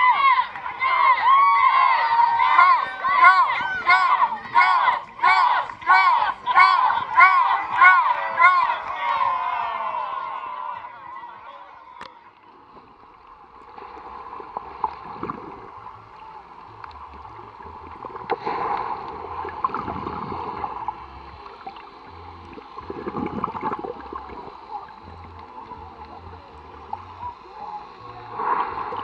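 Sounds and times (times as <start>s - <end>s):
churning water surges: 0.0s - 29.0s
muffled underwater sloshing: 0.0s - 29.0s.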